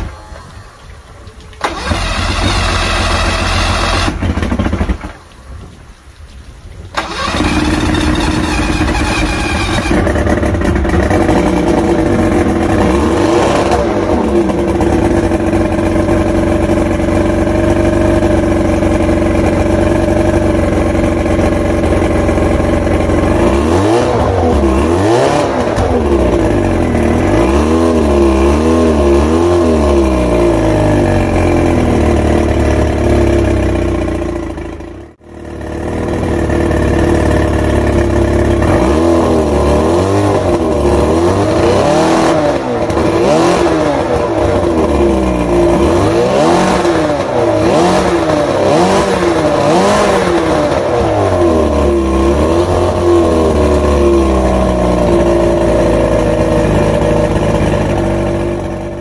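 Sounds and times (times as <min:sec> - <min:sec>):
outboard motor running and revving: 0:01.6 - 0:05.1, 0:07.0 - 0:59.0.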